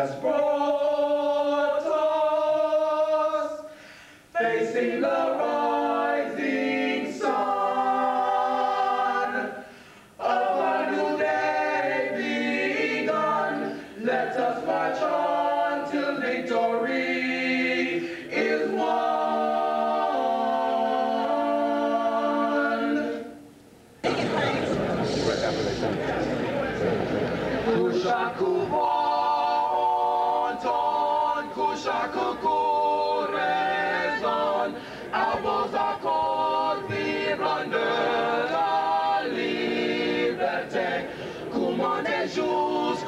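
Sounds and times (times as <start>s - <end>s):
male vocal quartet singing a cappella: 0.0s - 23.4s, 27.6s - 43.0s.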